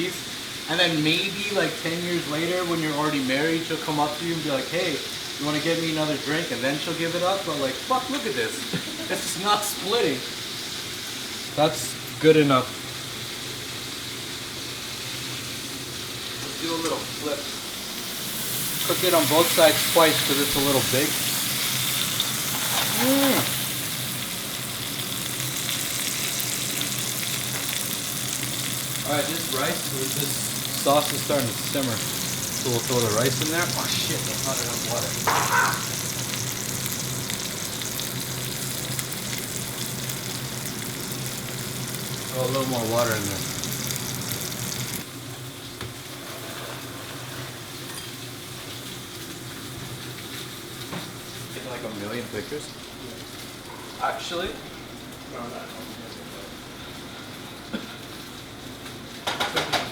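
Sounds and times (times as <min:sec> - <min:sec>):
chicken sizzling in a frying pan: 0:00.0 - 0:59.9.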